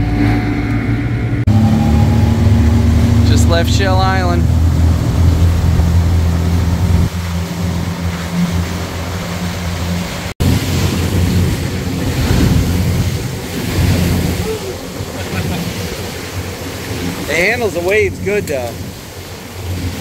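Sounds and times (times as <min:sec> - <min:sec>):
churning wake water: 0:00.0 - 0:20.0
outboard motor running: 0:00.0 - 0:20.0
rushing wind: 0:00.0 - 0:20.0.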